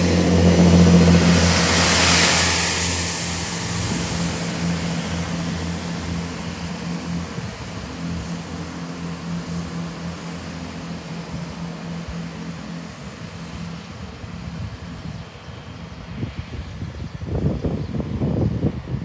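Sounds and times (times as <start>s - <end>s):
diesel engine humming drone: 0.0s - 18.9s
train rumble: 0.0s - 19.0s.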